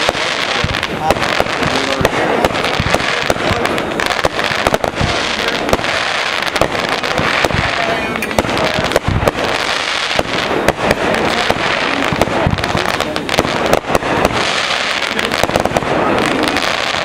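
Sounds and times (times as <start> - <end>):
fireworks bangs and crackles: 0.0 - 17.0
heavy firework thuds: 0.0 - 17.0.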